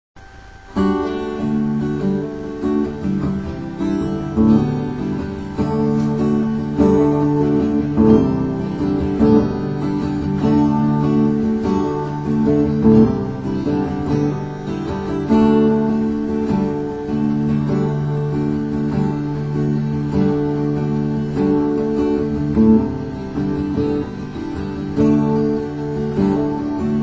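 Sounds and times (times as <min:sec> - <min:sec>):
acoustic guitar chords: 0:00.2 - 0:27.0.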